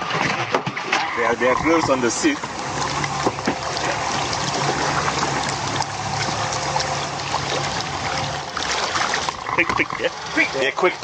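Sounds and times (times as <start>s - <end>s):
outboard engines idling: 0.0s - 11.0s
water splashing along hull: 0.0s - 11.0s.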